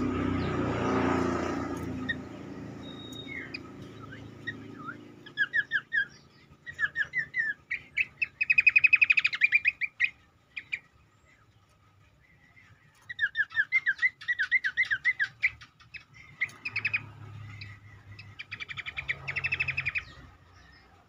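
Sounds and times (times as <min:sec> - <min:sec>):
bird whistled notes and trill: 0:01.6 - 0:21.0.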